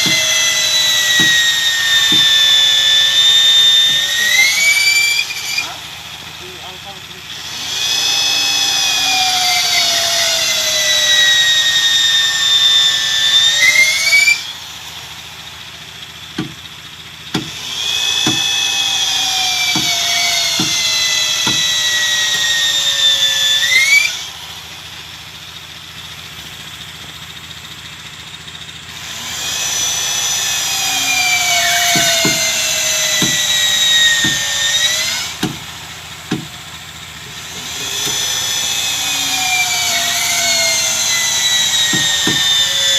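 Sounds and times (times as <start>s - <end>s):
power tool whining on wood: 0.0s - 42.9s.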